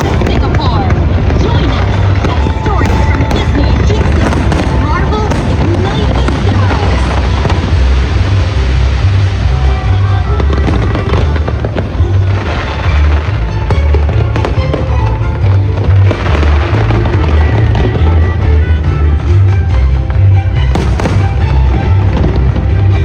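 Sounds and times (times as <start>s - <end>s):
fireworks cracking: 0.0s - 23.0s
loud show music: 0.0s - 23.0s.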